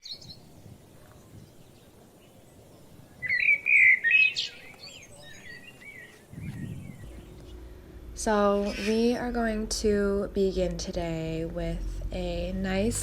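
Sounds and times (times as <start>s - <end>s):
faint outdoor background noise: 0.0s - 13.0s
songbird chirping: 0.0s - 13.0s.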